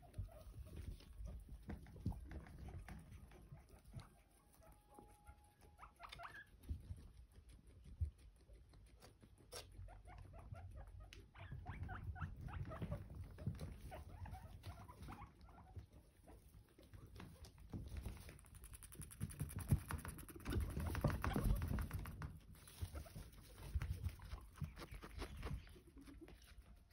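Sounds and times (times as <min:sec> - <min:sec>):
animals pattering and rustling: 0:00.0 - 0:26.9
guinea pigs squeaking: 0:00.0 - 0:26.9.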